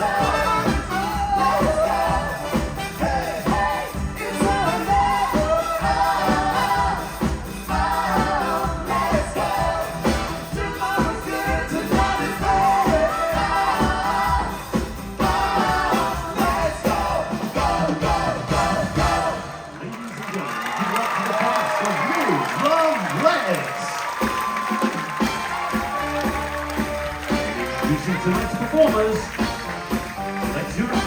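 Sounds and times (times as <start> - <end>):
pop band with steady beat: 0.0 - 19.7, 24.0 - 31.0
singers: 0.0 - 31.0.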